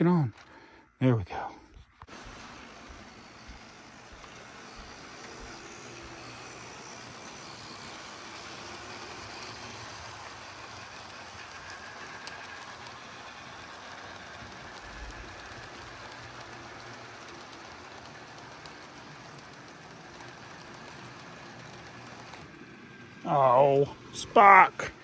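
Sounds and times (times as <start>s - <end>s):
model train whirring: 0.0s - 0.9s, 2.0s - 25.0s.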